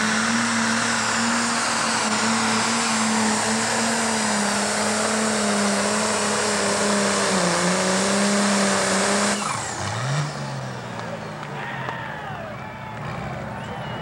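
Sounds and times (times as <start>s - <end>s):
diesel engine high-rpm drone: 0.0s - 14.0s.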